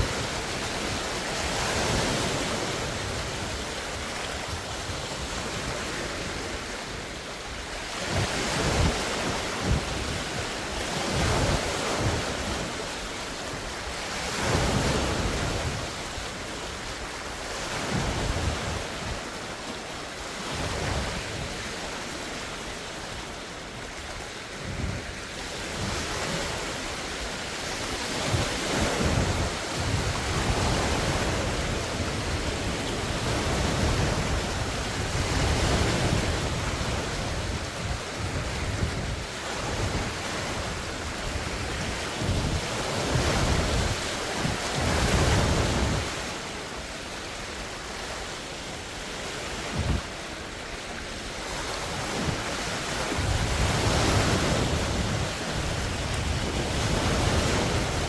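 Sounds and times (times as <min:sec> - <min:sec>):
lake waves breaking on shore: 0:00.0 - 0:58.0
wind gusting over microphone: 0:00.0 - 0:58.0.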